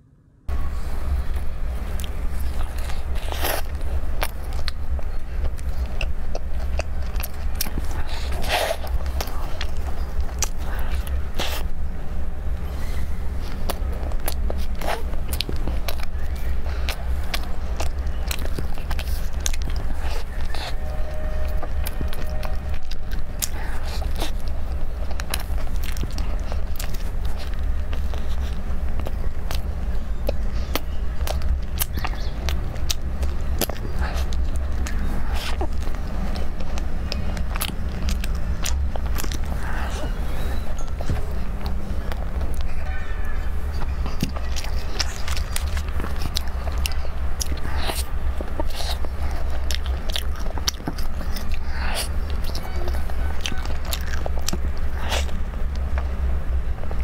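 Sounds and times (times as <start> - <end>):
steady low hum: 0.0 - 57.0
steady low rumble: 0.0 - 57.0
chewing clicks: 1.3 - 11.7, 13.4 - 57.0
crackly pastry crunches: 1.4 - 11.8, 12.5 - 57.0.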